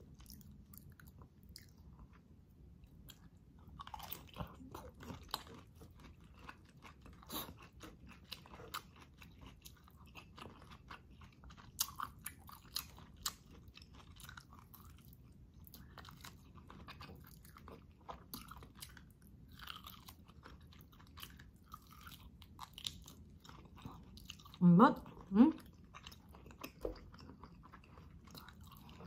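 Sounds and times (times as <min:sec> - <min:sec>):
chewing and biting meat: 0:02.9 - 0:29.0.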